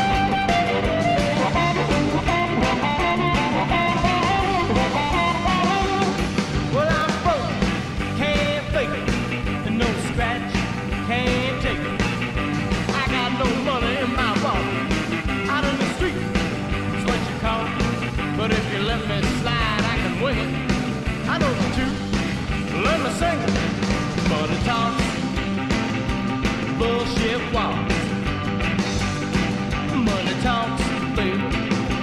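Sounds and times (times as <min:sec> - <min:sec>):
blues-rock instrumental: 0:00.0 - 0:32.0.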